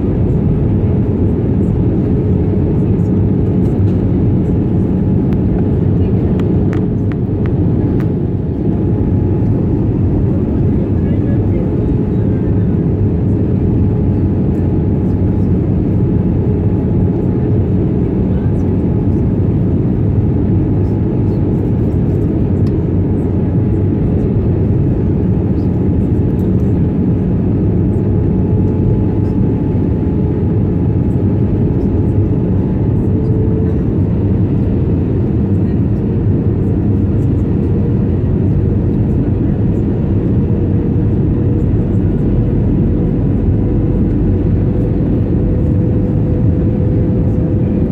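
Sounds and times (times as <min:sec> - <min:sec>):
airplane cabin engine drone: 0:00.0 - 0:47.9.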